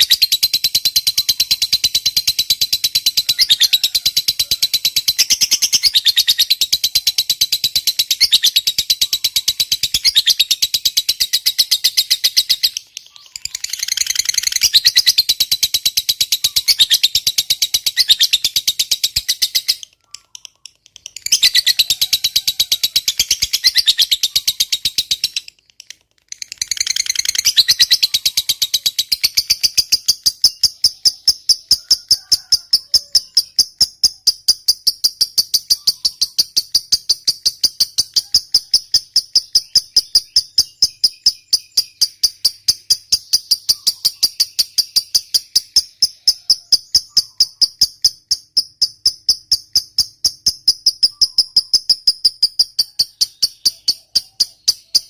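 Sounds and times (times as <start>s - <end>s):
lovebird chattering chirps: 0.0s - 55.0s.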